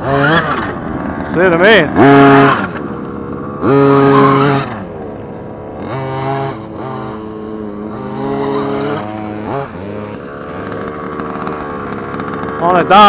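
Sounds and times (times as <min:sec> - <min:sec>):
toy truck engine revving: 0:00.0 - 0:13.0.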